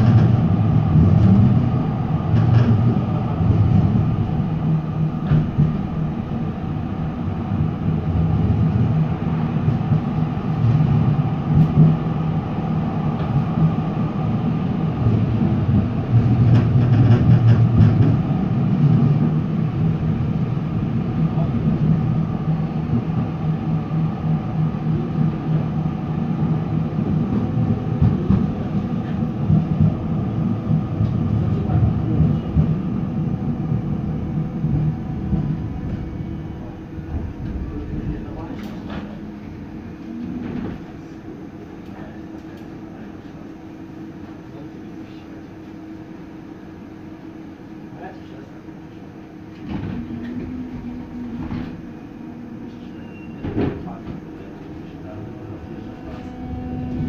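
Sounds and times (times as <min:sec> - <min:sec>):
low hum: 0:00.0 - 0:42.7, 0:49.4 - 0:57.0
wheels rumbling on rails: 0:00.0 - 0:46.4, 0:47.0 - 0:57.0.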